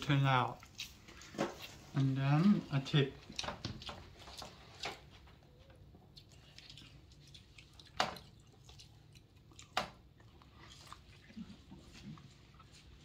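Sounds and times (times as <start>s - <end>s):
faint chewing: 0.3s - 13.0s.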